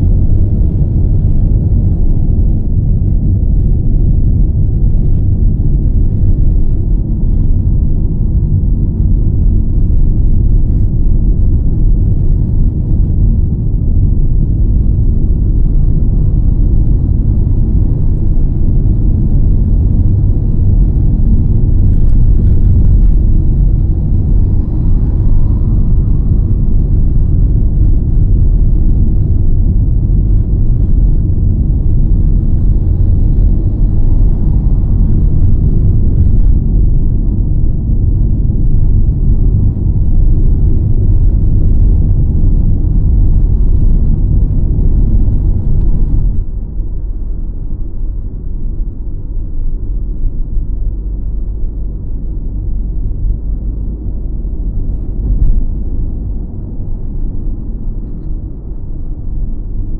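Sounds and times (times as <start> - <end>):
road and wind noise inside car: 0.0 - 59.9.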